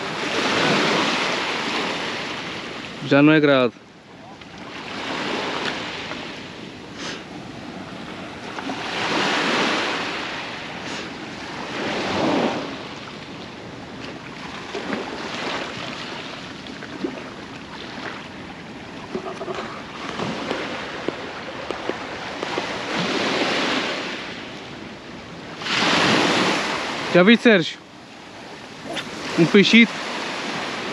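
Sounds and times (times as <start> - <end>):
sea surf breaking on beach: 0.0 - 3.6, 4.2 - 30.9.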